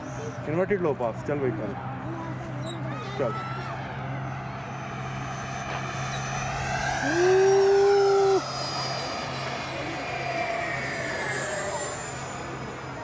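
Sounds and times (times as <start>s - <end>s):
model jet fan whine passing: 0.0s - 13.0s
loud steady held tone: 2.4s - 13.0s.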